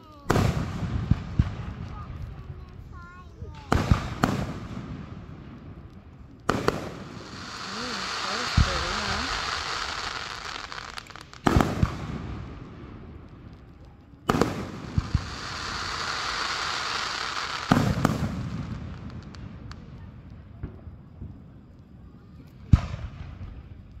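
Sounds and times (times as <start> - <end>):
fizzing crackle of fireworks: 0.0 - 24.0.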